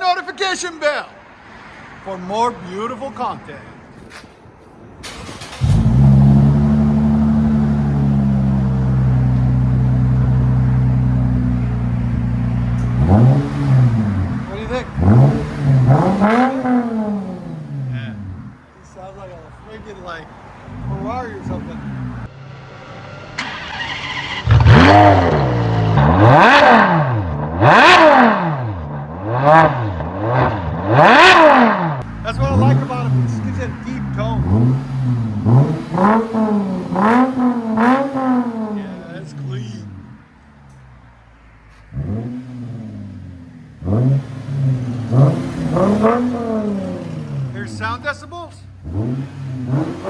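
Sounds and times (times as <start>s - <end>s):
car engine revving: 5.0s - 50.0s.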